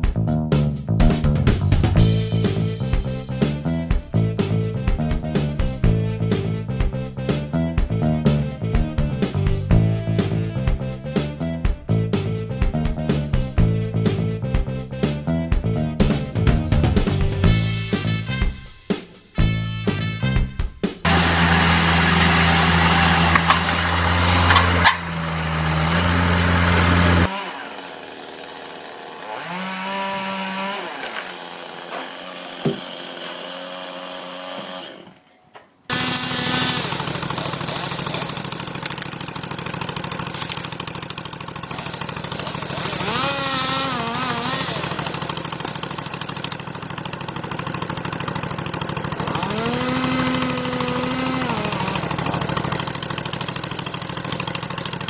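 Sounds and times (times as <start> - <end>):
chainsaws revving: 1.1 - 14.5, 15.2 - 18.4, 21.0 - 35.3, 35.9 - 55.0.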